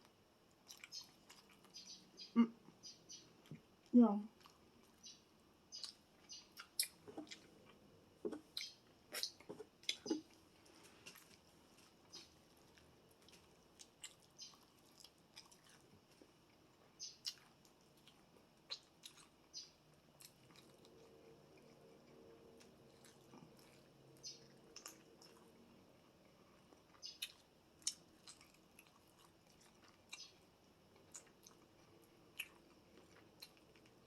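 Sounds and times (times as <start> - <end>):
chewing crunchy food: 0.0 - 34.0.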